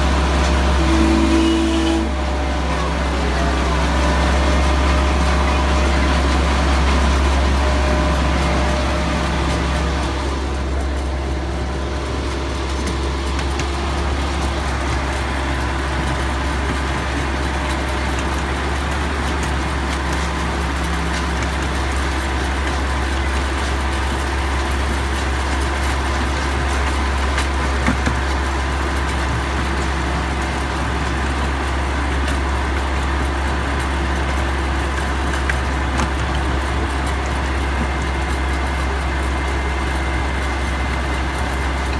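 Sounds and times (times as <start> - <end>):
low engine drone: 0.0 - 41.9
train rolling on track: 0.0 - 41.9.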